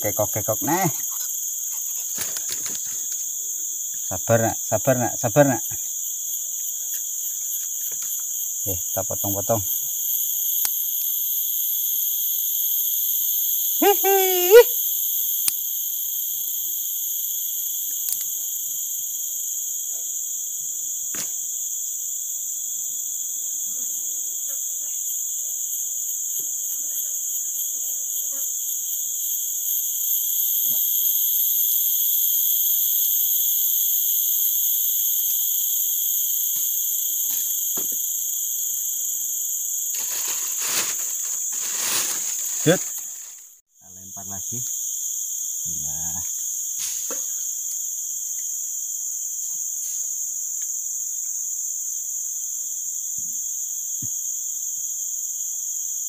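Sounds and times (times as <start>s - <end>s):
insects shrilling: 0.0s - 50.8s.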